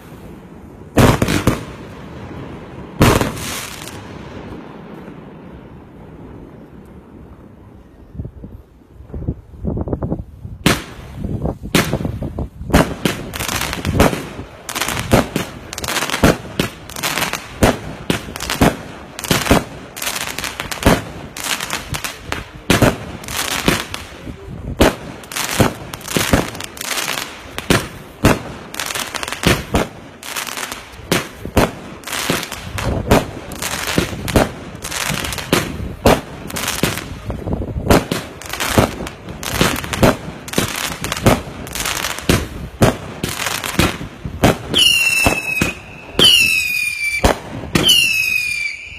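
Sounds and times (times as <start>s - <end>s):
fireworks crackle: 0.0s - 7.5s, 9.0s - 48.9s
fireworks bangs: 0.0s - 7.8s, 10.5s - 48.9s.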